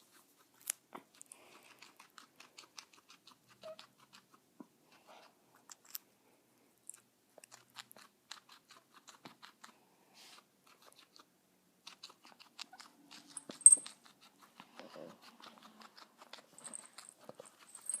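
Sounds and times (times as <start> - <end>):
guinea pig chewing: 0.0 - 6.1, 6.9 - 17.8.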